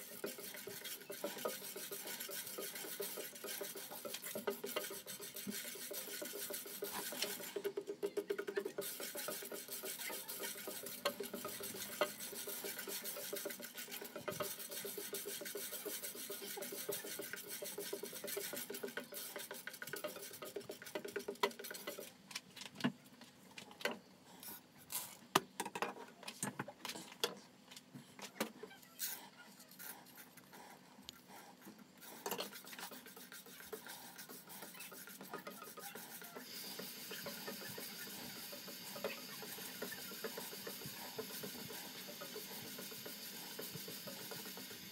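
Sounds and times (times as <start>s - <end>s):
spatula stirring in a pan: 0.0s - 22.2s, 28.8s - 44.9s.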